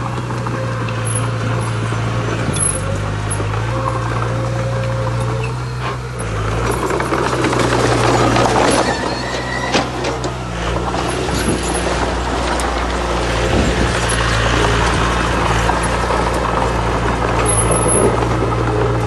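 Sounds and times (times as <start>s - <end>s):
heavy diesel machinery running: 0.0s - 19.0s
rough rattling and scraping: 0.0s - 19.0s.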